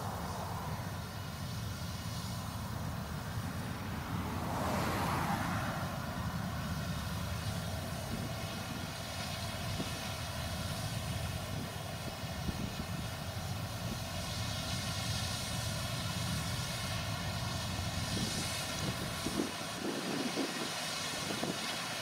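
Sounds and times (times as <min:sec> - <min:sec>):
combine harvester engine drone: 0:00.0 - 0:22.0
machinery whine: 0:00.0 - 0:22.0.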